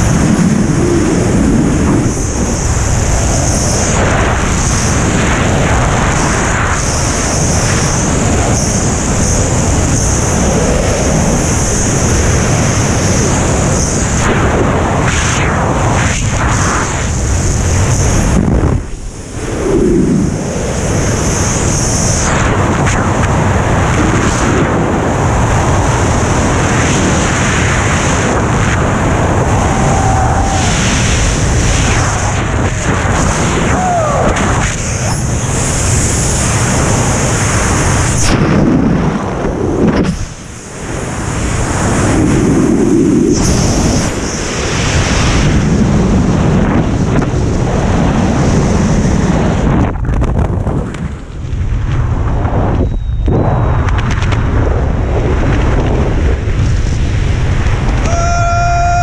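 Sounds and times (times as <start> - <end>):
wind blasting over microphone: 0.0 - 59.0.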